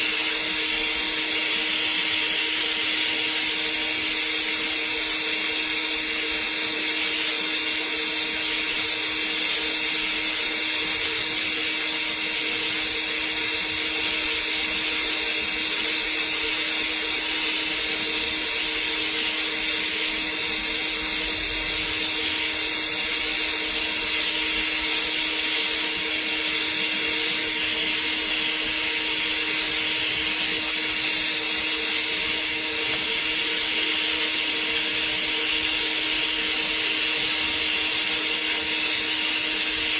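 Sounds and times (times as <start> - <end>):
welding arc hissing and humming: 0.0 - 39.9.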